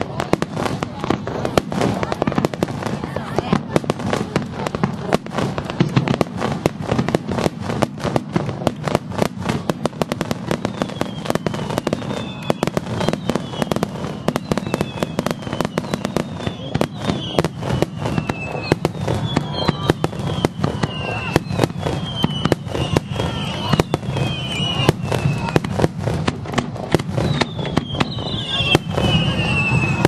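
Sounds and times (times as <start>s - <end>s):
falling firework whistles: 0.0s - 30.0s
fireworks crackling and banging: 0.0s - 30.0s.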